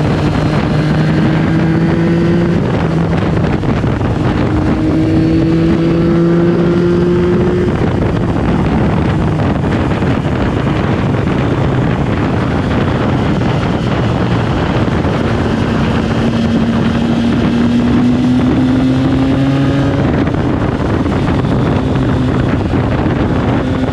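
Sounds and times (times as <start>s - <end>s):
wind noise on microphone: 0.0s - 23.9s.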